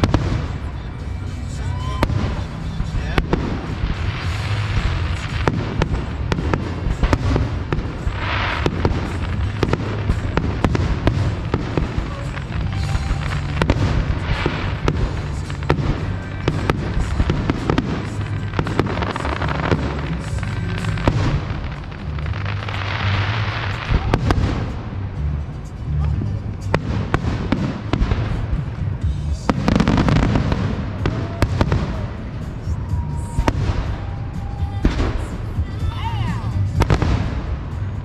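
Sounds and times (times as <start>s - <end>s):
fireworks bangs and booms: 0.0s - 38.0s
fireworks crackling: 0.0s - 38.0s.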